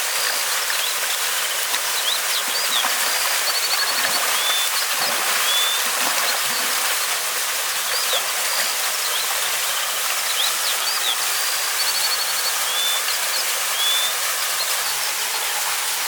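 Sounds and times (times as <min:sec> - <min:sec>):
stream and waterfall rushing: 0:00.0 - 0:16.0
small birds chirping: 0:00.1 - 0:15.2.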